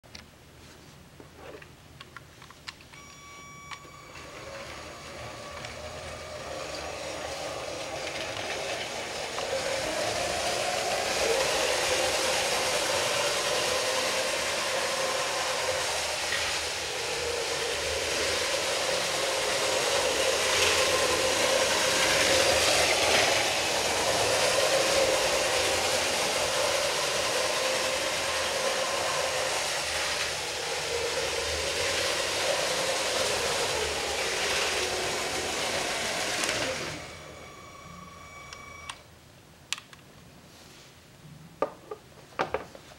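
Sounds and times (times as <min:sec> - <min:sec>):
toy train motor whine: 0:03.0 - 0:39.0
wheels rolling on plastic track: 0:04.1 - 0:39.0.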